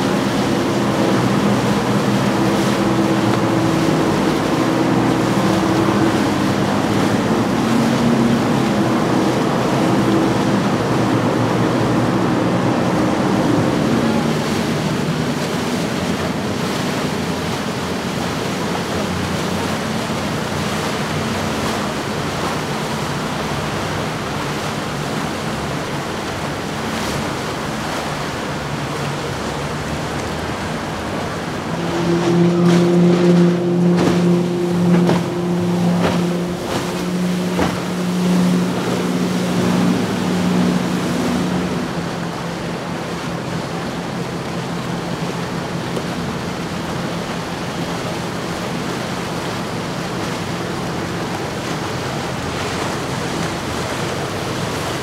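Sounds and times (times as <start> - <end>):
motorboat outboard engine droning: 0.0 - 55.0
water rushing from boat wakes: 0.0 - 55.0
wind: 0.0 - 55.0.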